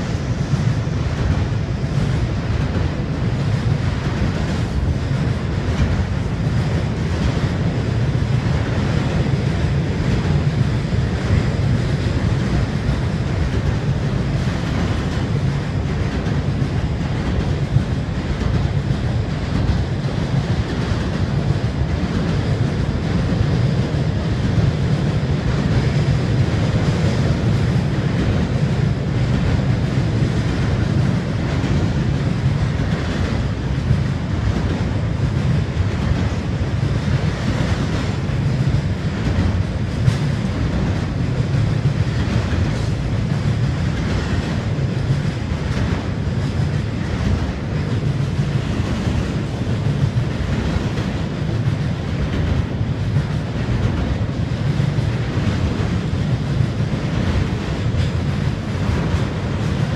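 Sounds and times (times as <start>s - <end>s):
freight train rumbling over bridge: 0.0s - 59.9s.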